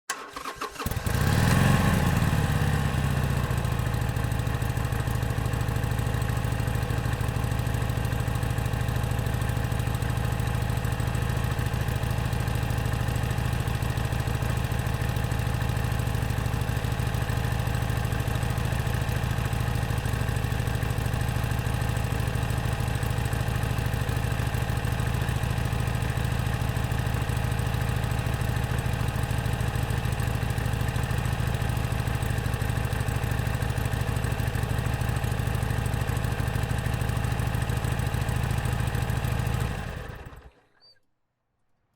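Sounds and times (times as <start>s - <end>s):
motorcycle engine idling: 0.1s - 40.6s.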